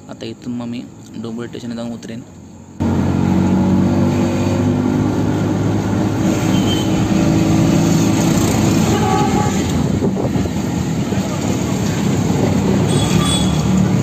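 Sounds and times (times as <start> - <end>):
auto-rickshaw engine running: 2.3 - 14.0.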